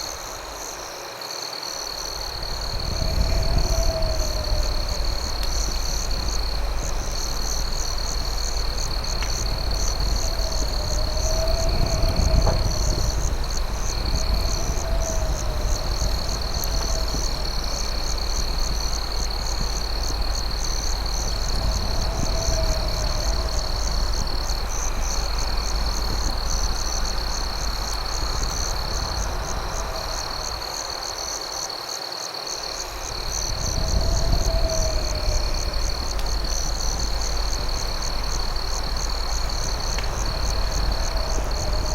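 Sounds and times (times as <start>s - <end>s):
crickets trilling: 0.0s - 41.9s
fast pulsing insect chirp: 0.0s - 41.9s
low insect call: 0.0s - 41.9s
constant low rumble: 1.8s - 31.6s, 32.8s - 41.9s.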